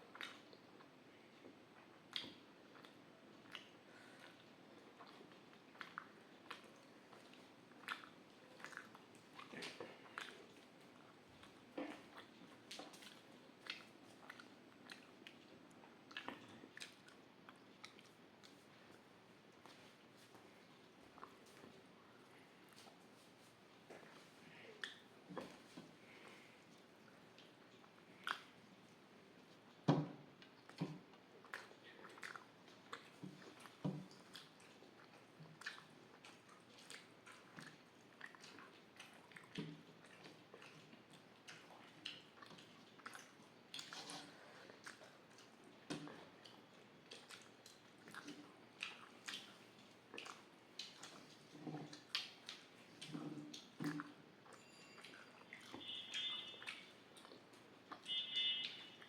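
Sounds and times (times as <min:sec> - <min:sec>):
person chewing food: 0:00.1 - 0:59.0.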